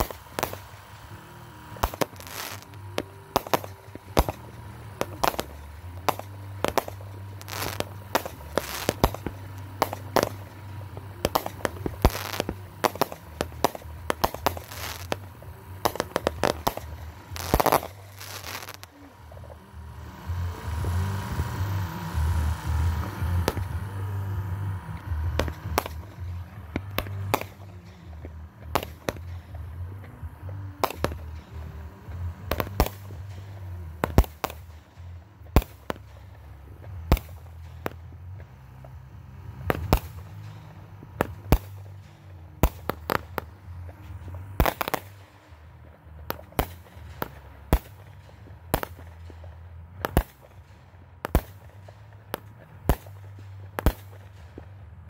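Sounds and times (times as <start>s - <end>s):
firework shells bursting: 0.0s - 55.0s
low steady rumble: 0.0s - 55.0s.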